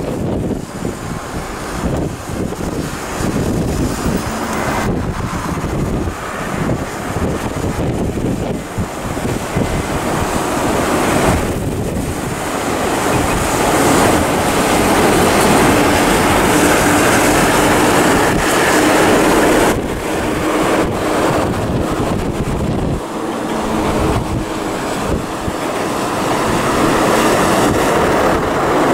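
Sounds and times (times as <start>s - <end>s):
highway road noise: 0.0s - 28.9s
wind rushing over microphone: 0.0s - 28.9s.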